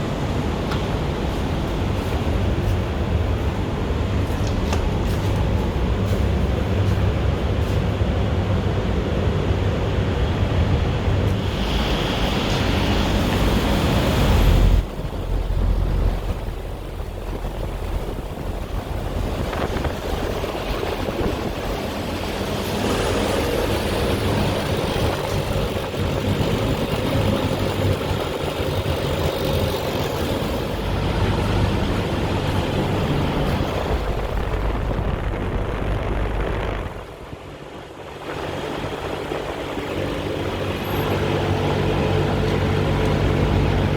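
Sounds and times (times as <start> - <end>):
air conditioning unit humming: 0.0 - 43.9.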